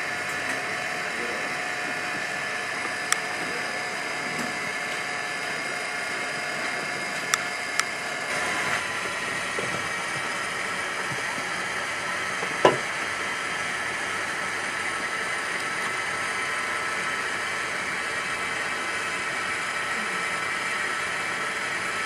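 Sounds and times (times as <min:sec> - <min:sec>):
machine background noise: 0:00.0 - 0:22.0.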